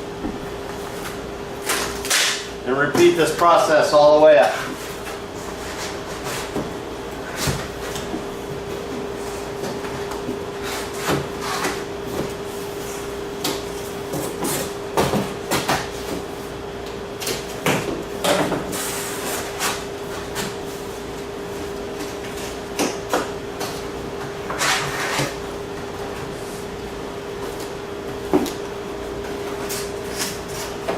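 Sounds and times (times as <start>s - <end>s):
steady hum: 0.0s - 30.9s.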